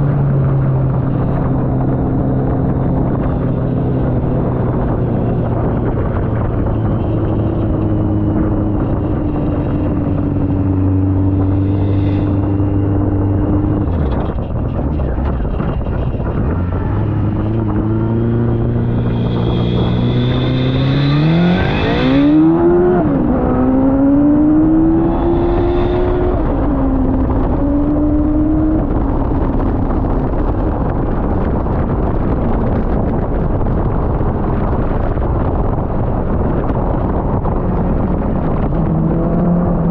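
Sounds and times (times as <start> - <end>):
constant rough noise: 0.0 - 39.9
motorcycle engine revving: 0.0 - 39.9.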